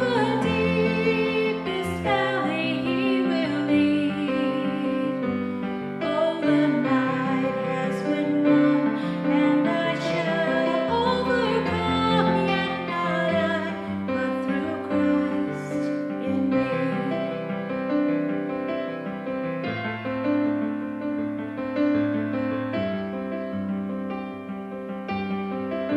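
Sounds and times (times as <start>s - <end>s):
piano accompaniment: 0.0s - 25.9s.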